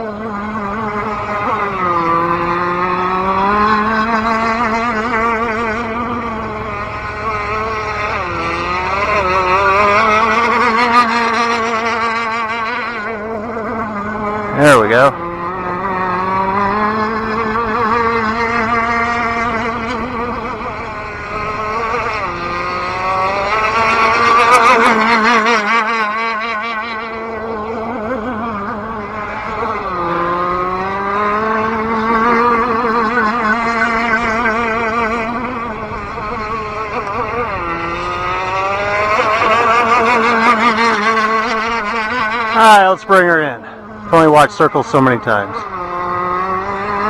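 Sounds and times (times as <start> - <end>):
model boat engine buzzing: 0.0 - 47.0.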